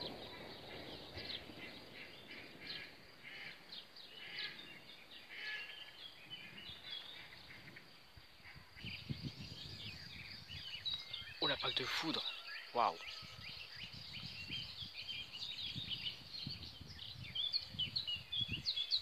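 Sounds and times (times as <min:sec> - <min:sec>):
faint outdoor background noise: 0:00.0 - 0:19.0
small birds chirping: 0:00.0 - 0:19.0.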